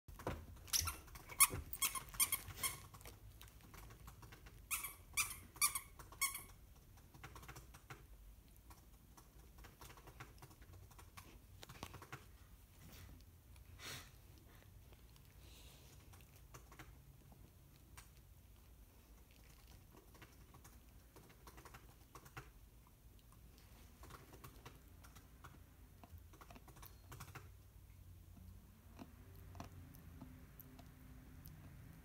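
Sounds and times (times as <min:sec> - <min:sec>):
puppy teeth gnawing clicks: 0:00.2 - 0:12.4, 0:14.8 - 0:27.6, 0:28.3 - 0:32.0.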